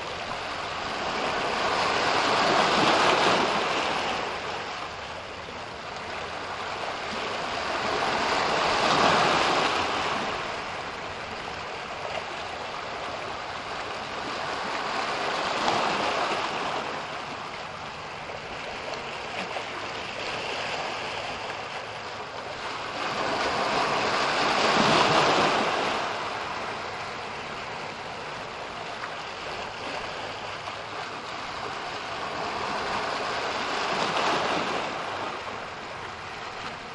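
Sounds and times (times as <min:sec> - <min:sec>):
ocean waves breaking: 0:00.0 - 0:36.9.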